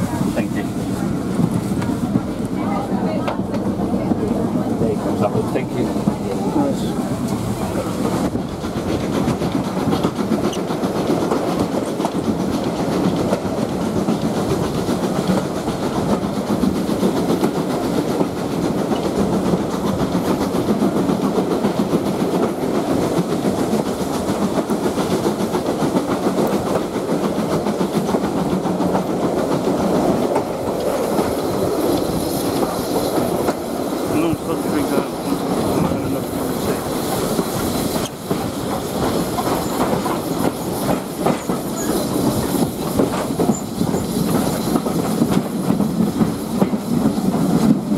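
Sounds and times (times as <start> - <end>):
train wheels clicking on rails: 0.0 - 47.9.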